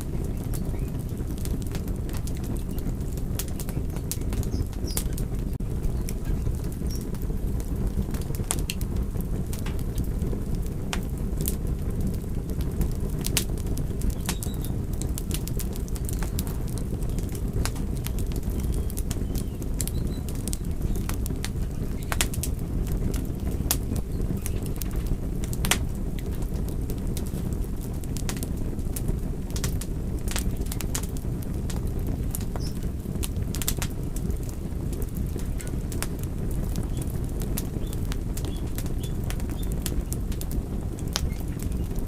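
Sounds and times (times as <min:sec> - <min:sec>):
fire crackling: 0:00.0 - 0:42.0.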